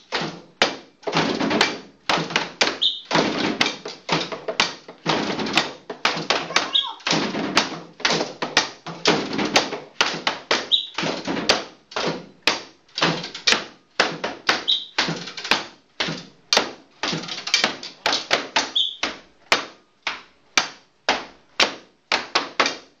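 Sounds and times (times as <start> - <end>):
percussion taps on sticks and boards: 0.0 - 23.0.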